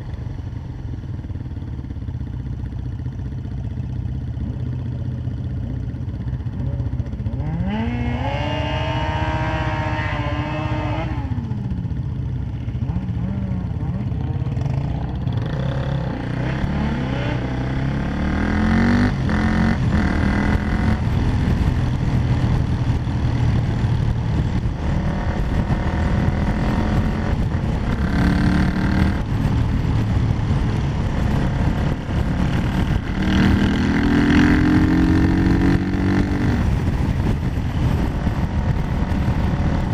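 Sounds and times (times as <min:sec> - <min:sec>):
wind and road noise: 0:00.0 - 0:39.9
quad bike engine revving: 0:06.5 - 0:11.7, 0:12.8 - 0:39.9.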